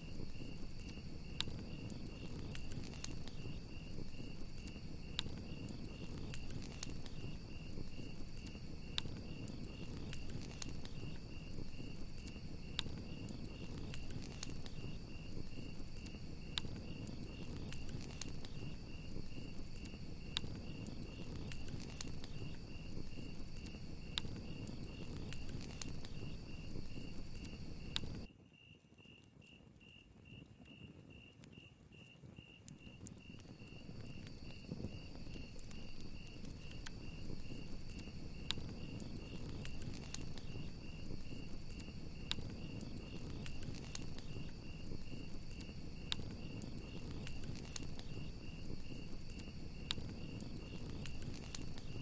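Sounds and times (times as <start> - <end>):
campfire crackling and popping: 0.0 - 28.4, 29.3 - 52.0
crickets chirping: 0.0 - 52.0.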